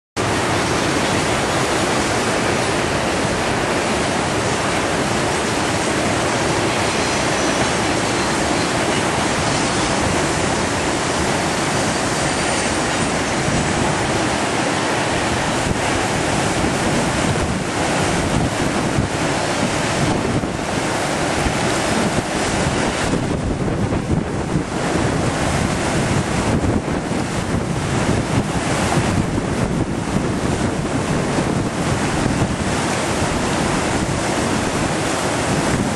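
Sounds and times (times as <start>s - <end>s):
whitewater rapids rushing: 0.2s - 35.9s
wind buffeting the microphone: 0.2s - 35.9s.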